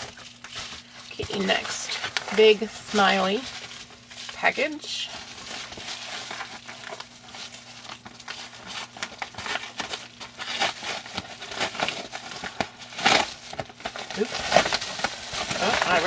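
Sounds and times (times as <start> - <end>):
paper mailer crinkling and tearing: 0.0 - 16.0.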